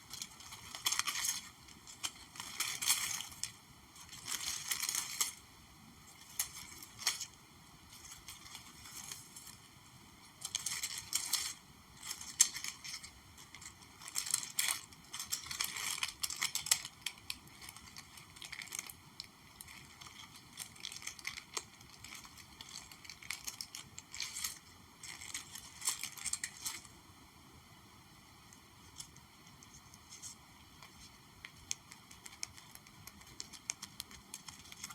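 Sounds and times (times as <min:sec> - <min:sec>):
crinkling and scratching: 0:00.0 - 0:27.0, 0:28.5 - 0:34.9.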